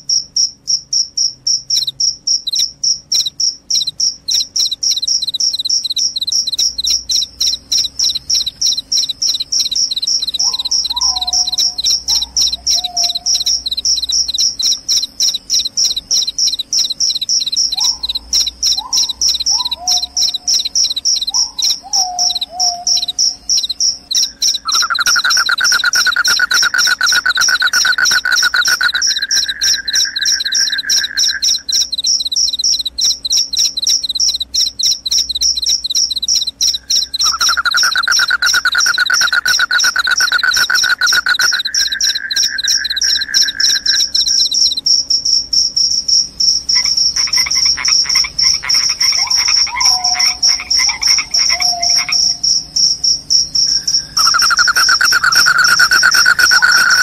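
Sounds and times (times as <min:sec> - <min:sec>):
crickets trilling: 0:00.0 - 0:57.0
lower-pitched steady trill: 0:00.0 - 0:57.0.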